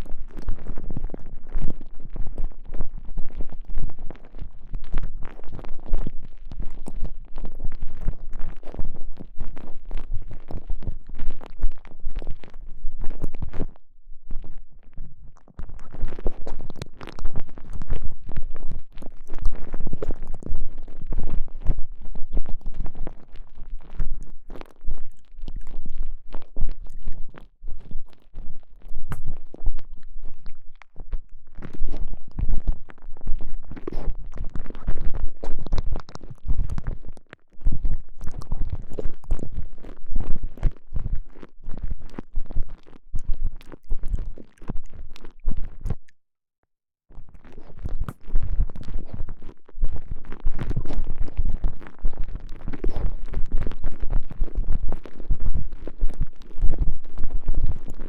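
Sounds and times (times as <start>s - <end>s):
rubbing and crackling on microphone: 0.0s - 46.2s, 47.1s - 58.0s.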